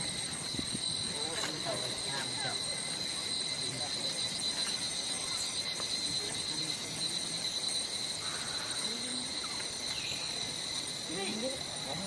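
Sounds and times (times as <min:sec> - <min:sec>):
insects shrilling: 0:00.0 - 0:12.0.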